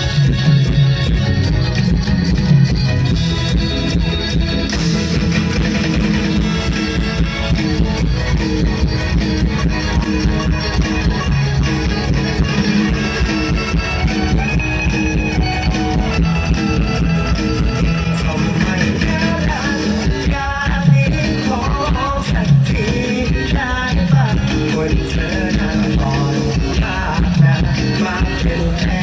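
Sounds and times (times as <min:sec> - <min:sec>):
guitar: 0:00.0 - 0:29.0
steady drum beat: 0:00.0 - 0:29.0.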